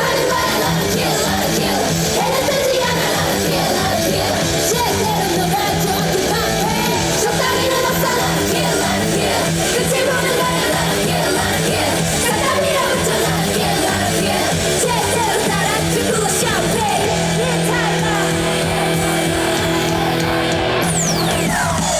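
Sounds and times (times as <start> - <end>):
live rock band playing: 0.0 - 21.9
person singing: 0.0 - 21.9.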